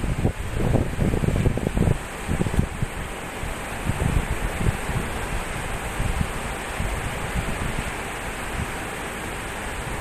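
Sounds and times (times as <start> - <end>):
wind buffeting microphone: 0.0 - 8.9
waves breaking: 0.0 - 10.0.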